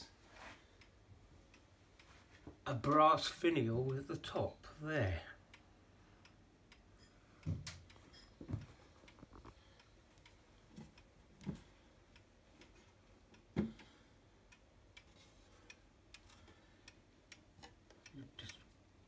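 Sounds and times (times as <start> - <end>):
wall clock ticking: 0.0 - 19.0.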